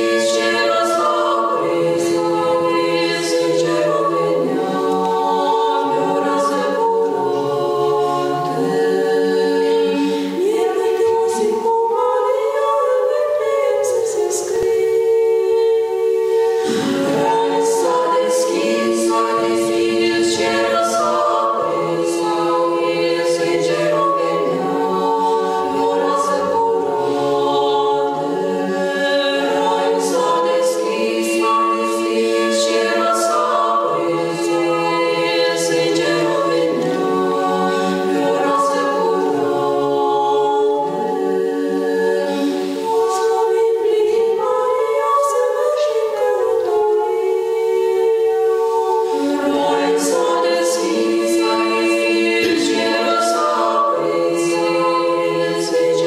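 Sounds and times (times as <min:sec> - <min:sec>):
women's choir singing a cappella: 0:00.0 - 0:56.0.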